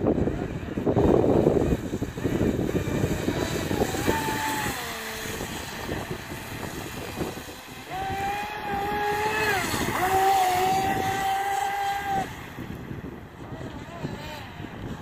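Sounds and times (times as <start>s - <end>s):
electric motor whining: 0.0s - 15.0s
steady rushing noise: 0.0s - 15.0s.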